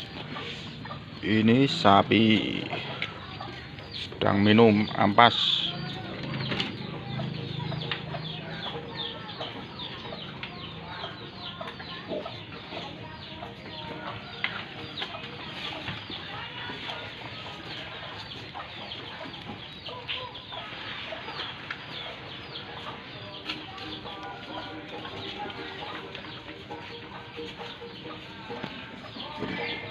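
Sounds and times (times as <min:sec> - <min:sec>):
chickens clucking and peeping: 0:00.0 - 0:29.9.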